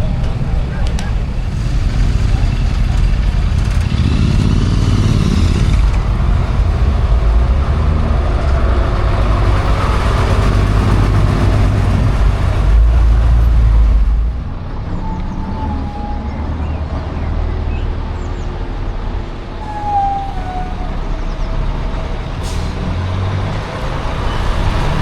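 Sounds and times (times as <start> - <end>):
diesel bus engine running: 0.0 - 19.6, 20.4 - 25.0.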